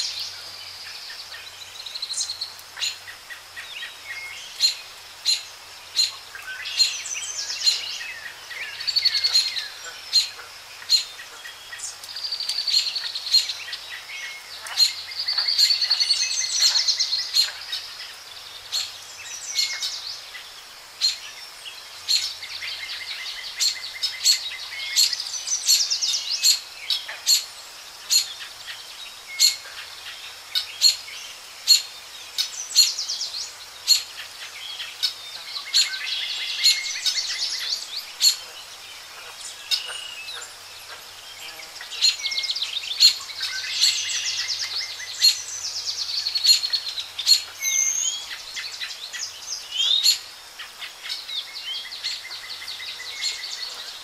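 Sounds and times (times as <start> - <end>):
birds trilling and chirping: 0.0 - 54.0
outdoor hiss: 0.0 - 54.0.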